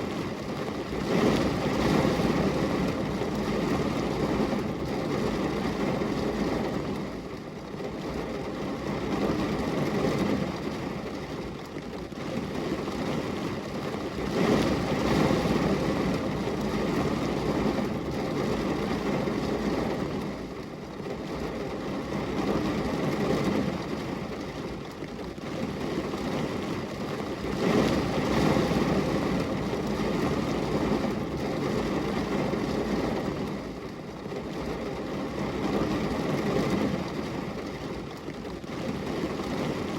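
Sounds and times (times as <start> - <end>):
rain: 0.0 - 39.9.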